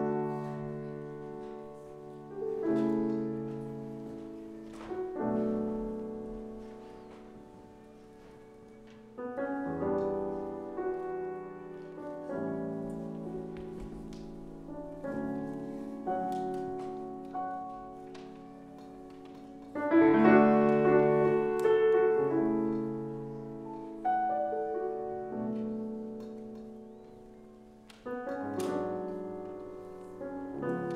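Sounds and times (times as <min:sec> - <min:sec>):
slow piano chords: 0:00.0 - 0:30.9.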